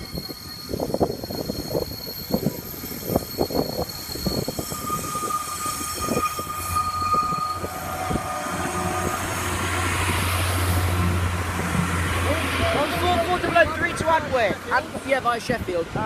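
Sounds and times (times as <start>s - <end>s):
high wheel squeal: 0.0s - 14.9s.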